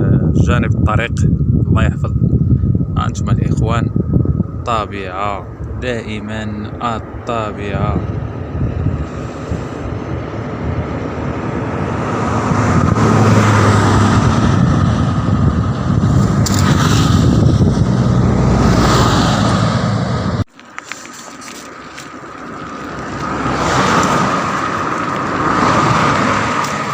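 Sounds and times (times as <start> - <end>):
wind buffeting microphone: 0.0 - 20.5, 21.4 - 26.9
vehicle passing on road: 3.9 - 26.9.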